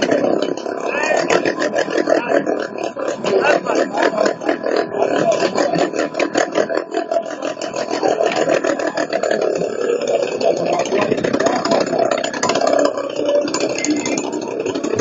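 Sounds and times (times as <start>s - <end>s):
motorcycle engines rough pulsing: 0.0s - 15.0s.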